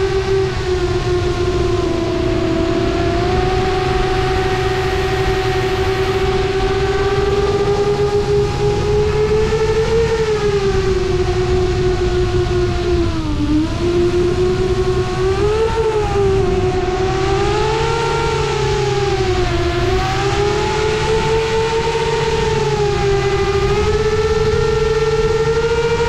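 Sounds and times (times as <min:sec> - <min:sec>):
low wind rumble: 0:00.0 - 0:26.0
quadcopter propellers whining: 0:00.0 - 0:26.0.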